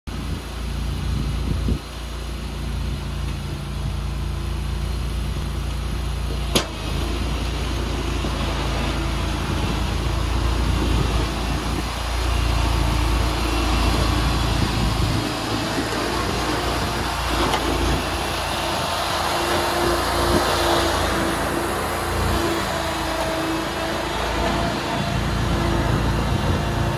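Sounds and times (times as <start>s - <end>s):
mower engine running: 0.1s - 26.9s.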